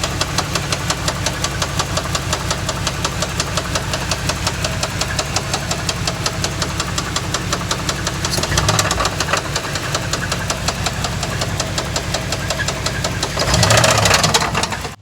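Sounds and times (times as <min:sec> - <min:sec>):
car engine running: 0:00.0 - 0:15.0
rapid engine knock: 0:00.0 - 0:15.0.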